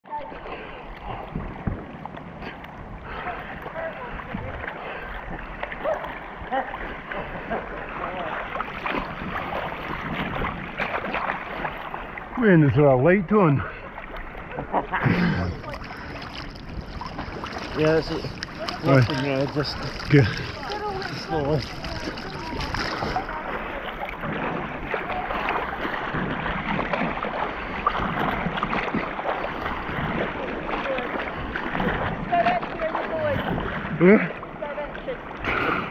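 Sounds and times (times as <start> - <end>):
sea water sloshing and splashing: 0.0 - 35.9.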